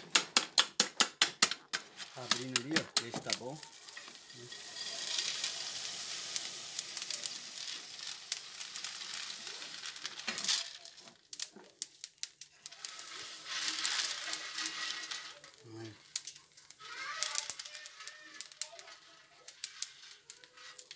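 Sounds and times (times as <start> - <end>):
coffee beans sizzling in a pan: 0.0 - 20.9
spoon and beans clicking on pan: 0.0 - 20.9.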